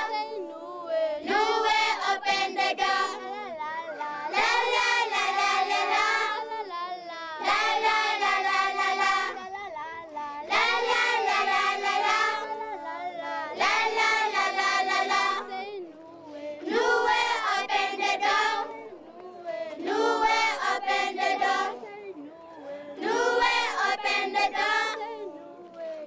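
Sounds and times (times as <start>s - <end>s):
children's choir singing: 0.0s - 25.9s.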